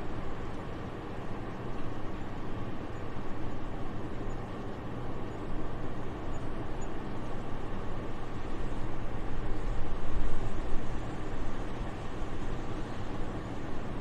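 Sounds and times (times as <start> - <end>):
soft steady wind: 0.0 - 14.0.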